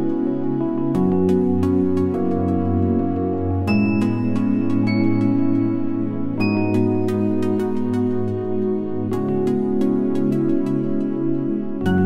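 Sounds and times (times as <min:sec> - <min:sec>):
gentle new-age instrumental music: 0:00.0 - 0:12.0.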